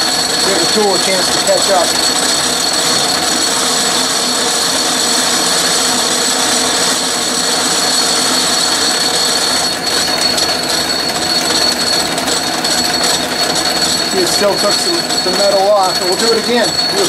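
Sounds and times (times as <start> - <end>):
high whine from gearing: 0.0 - 17.0
metal lathe running: 0.0 - 17.0.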